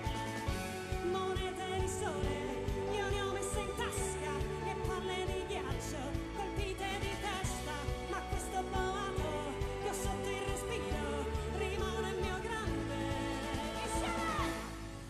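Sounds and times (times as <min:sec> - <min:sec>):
drum kit beat with cymbals: 0:00.0 - 0:15.0
orchestra playing: 0:00.0 - 0:15.0
woman singing pop ballad: 0:00.0 - 0:15.0.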